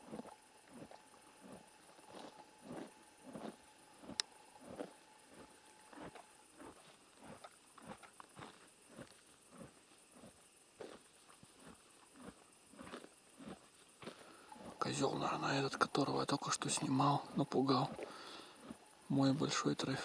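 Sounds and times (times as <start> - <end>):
horse chewing: 0.0 - 14.9, 16.8 - 19.0.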